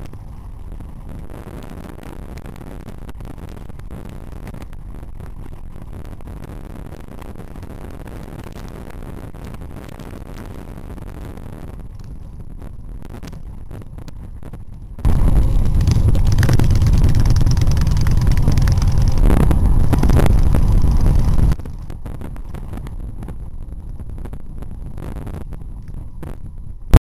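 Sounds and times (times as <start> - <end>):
road noise: 0.0 - 27.0
vehicle engine rumble: 0.0 - 27.0.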